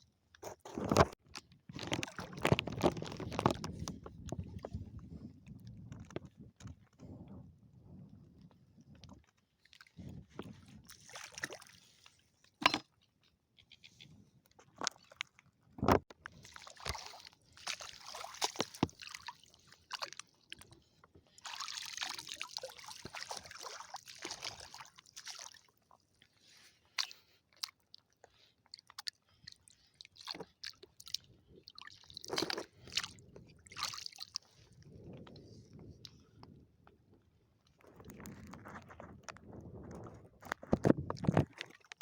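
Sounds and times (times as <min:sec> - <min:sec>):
sloshing in shallow water: 0:00.8 - 0:07.3, 0:08.3 - 0:13.0, 0:16.0 - 0:36.5, 0:37.6 - 0:42.0.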